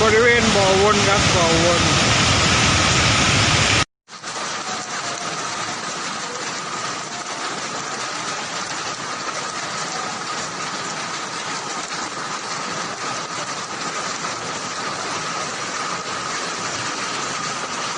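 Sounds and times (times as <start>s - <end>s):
floodwater rushing: 0.0s - 17.9s.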